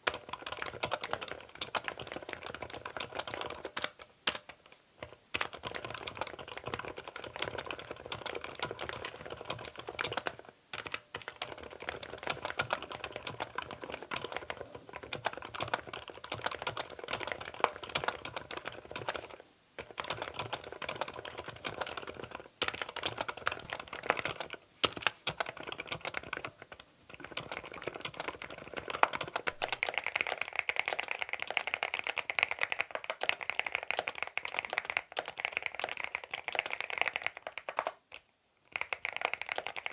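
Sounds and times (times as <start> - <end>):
fast typing on mechanical keyboard: 0.0 - 19.2, 19.8 - 38.0, 38.6 - 39.9.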